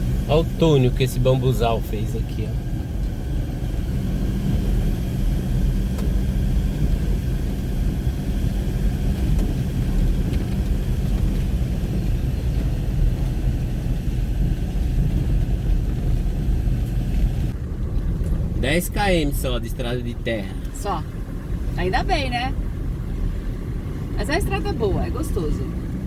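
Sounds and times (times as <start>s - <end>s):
car engine drone: 0.0s - 26.0s
tyres rumbling on dirt road: 0.0s - 26.0s.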